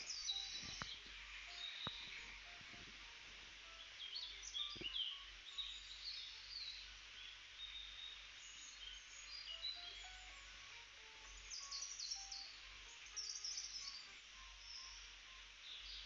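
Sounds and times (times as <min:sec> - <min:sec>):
background hiss: 0:00.0 - 0:16.0
faint bird chirps: 0:00.0 - 0:16.0.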